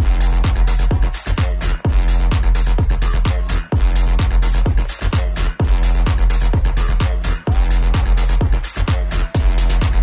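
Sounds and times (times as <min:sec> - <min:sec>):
electronic dance music: 0:00.0 - 0:10.0
kick drum: 0:00.0 - 0:10.0
sustained bass: 0:00.0 - 0:10.0.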